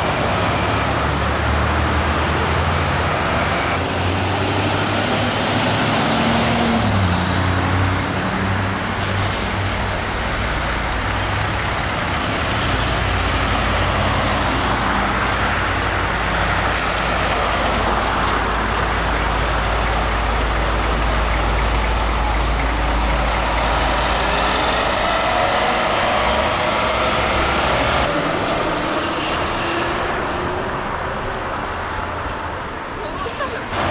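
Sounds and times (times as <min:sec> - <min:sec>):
diesel bus engine running: 0:00.0 - 0:28.7
road rumble: 0:00.0 - 0:33.9.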